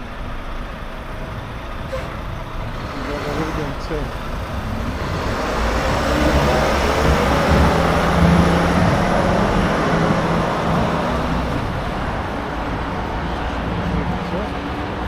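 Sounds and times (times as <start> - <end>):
heavy vehicle engine and road noise: 0.0 - 15.0.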